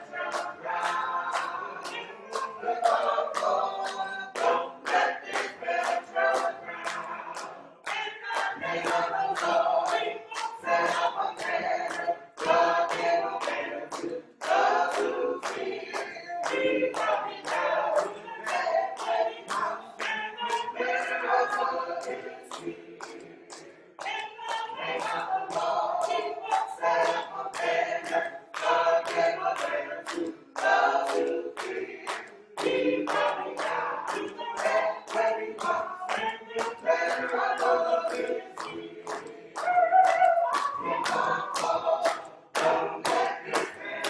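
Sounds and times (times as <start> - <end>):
choir singing a cappella: 0.0 - 44.0
hands clapping a steady beat: 0.0 - 44.0.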